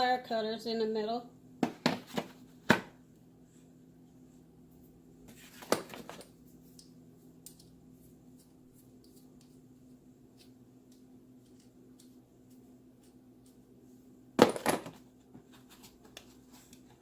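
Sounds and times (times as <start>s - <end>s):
steady low hum: 2.3s - 17.0s.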